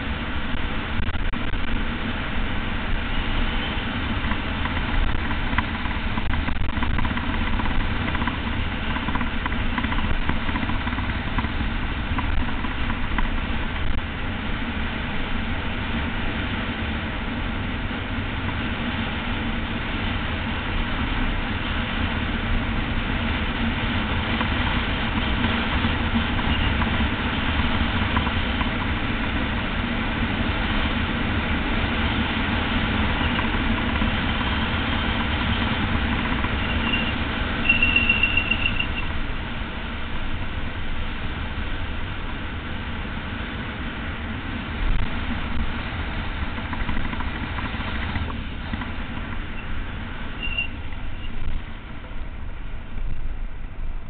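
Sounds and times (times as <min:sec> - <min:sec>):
tyres rumbling on asphalt: 0:00.0 - 0:54.0.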